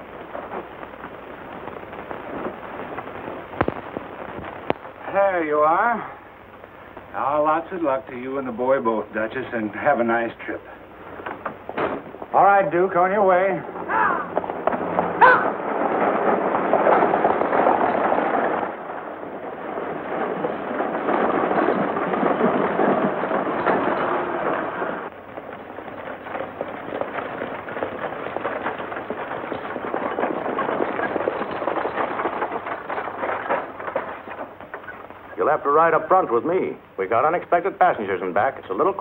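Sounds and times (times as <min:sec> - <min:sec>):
horses galloping: 0:00.0 - 0:39.0
stagecoach rattling: 0:00.0 - 0:39.0.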